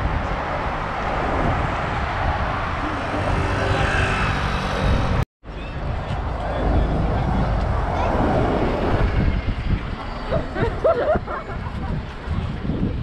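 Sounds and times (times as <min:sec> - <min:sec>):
passing traffic: 0:00.0 - 0:13.0.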